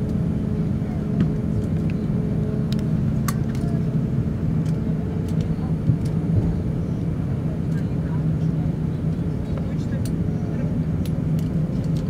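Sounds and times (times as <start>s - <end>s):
aircraft engine rumble and hum: 0.0s - 12.0s.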